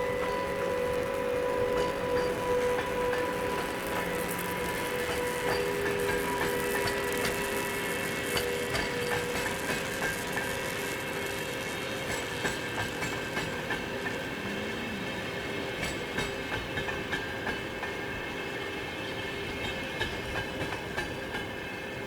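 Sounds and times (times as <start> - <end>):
train rumble: 0.0 - 22.0
train wheels clacking on rails: 0.0 - 22.0.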